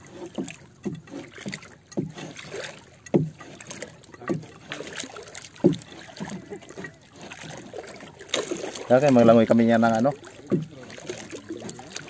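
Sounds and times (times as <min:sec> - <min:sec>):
seawater sloshing and slapping: 0:00.0 - 0:12.0.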